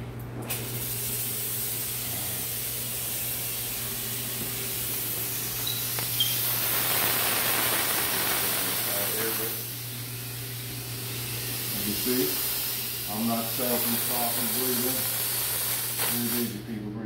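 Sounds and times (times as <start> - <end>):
fogger motor hum: 0.0 - 16.9
mist spray hiss: 0.5 - 16.6.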